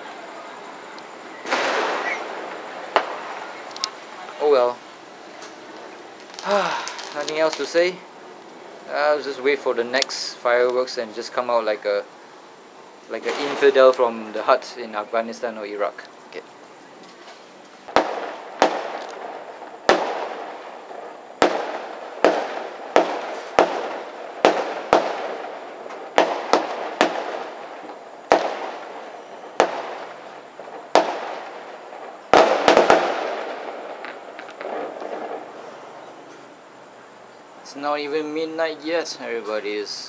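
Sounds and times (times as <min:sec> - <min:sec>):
fireworks exploding: 0:00.0 - 0:40.0.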